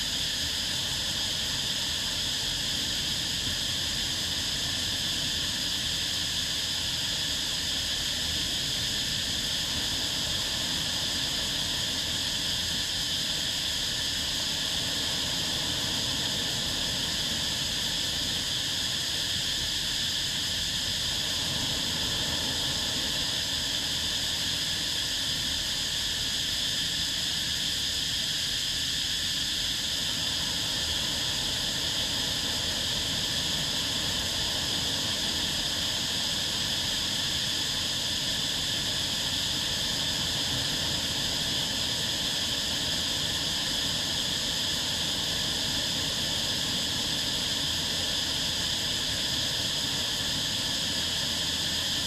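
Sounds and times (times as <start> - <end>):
insect chorus hissing: 0.0 - 52.0.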